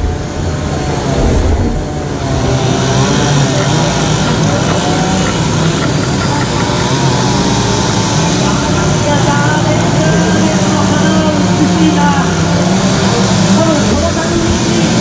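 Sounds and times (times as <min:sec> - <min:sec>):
chainsaws cutting logs: 0:00.0 - 0:15.0.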